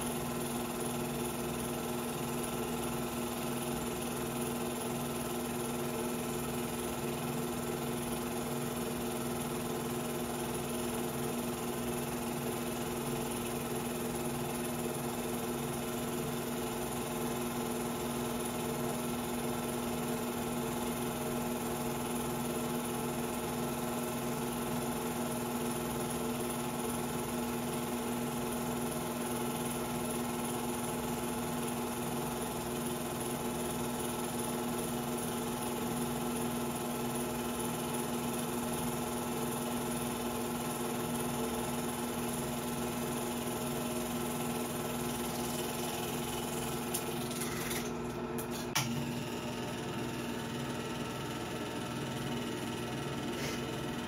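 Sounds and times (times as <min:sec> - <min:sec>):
film projector humming and whirring: 0:00.0 - 0:54.0.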